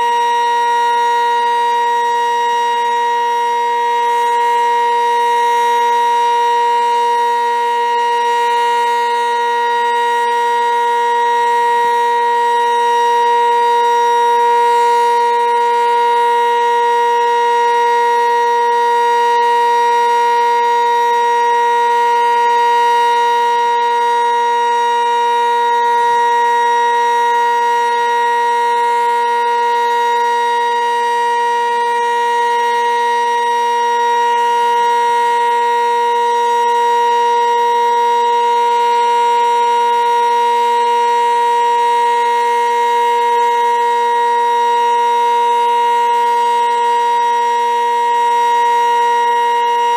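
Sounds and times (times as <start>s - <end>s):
warning siren steady tone: 0.0s - 49.9s.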